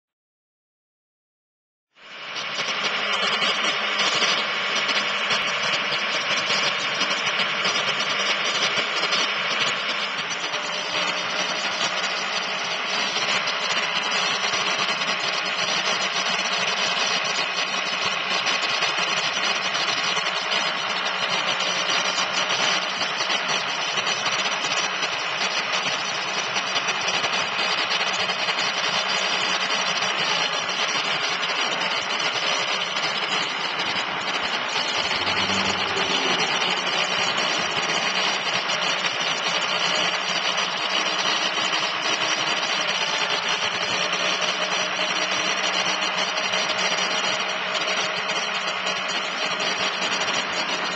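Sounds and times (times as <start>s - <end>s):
truck hydraulic whine: 2.0s - 50.9s.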